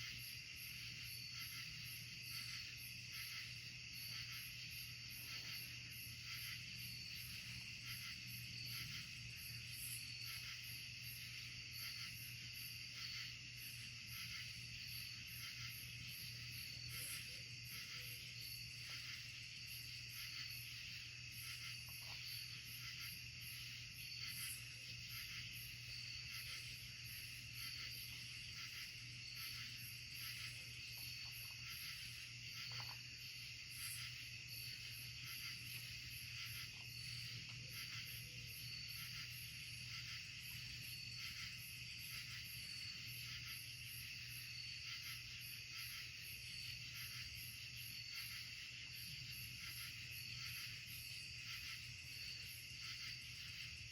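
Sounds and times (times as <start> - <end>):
insects trilling: 0.0 - 53.9.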